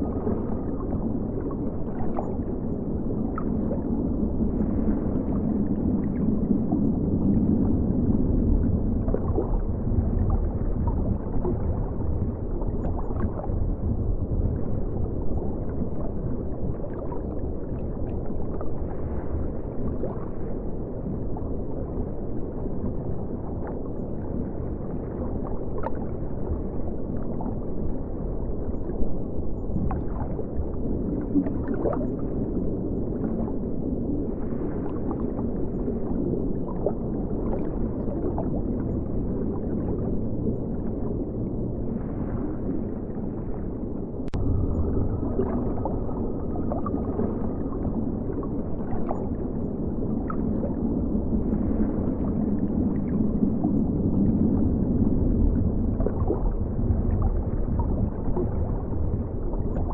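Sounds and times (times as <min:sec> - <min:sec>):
underwater river gurgling: 0:00.0 - 0:59.9.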